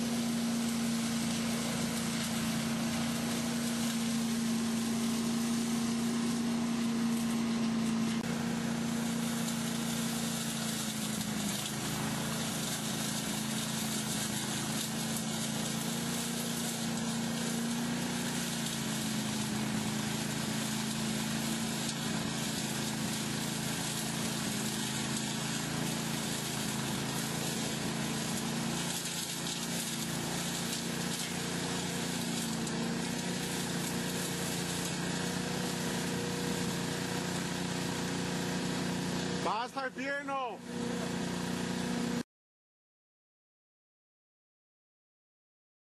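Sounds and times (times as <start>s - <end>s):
air and leaves rushing through hose: 0.0s - 42.2s
engine hum: 0.0s - 42.2s.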